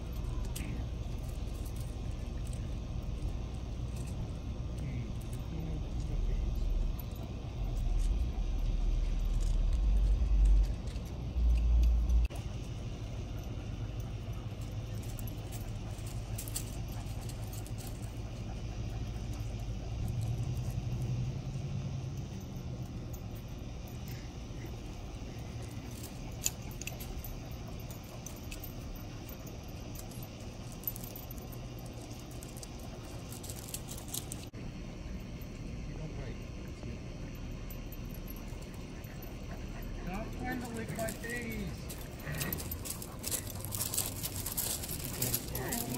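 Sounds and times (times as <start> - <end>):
faint light clinks: 0.0 - 45.9.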